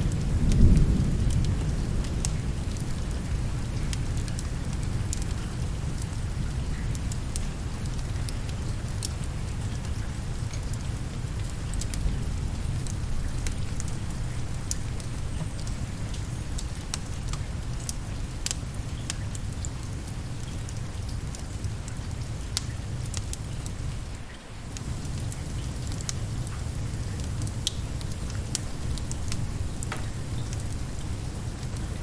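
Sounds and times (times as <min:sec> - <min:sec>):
fireplace fire crackling and popping: 0:00.0 - 0:32.0
steady rain: 0:00.0 - 0:32.0.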